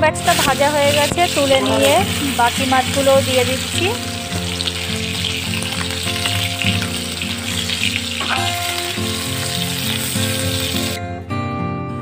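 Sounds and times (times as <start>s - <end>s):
fish sizzling in hot oil: 0.0s - 11.0s
background music: 0.0s - 12.0s.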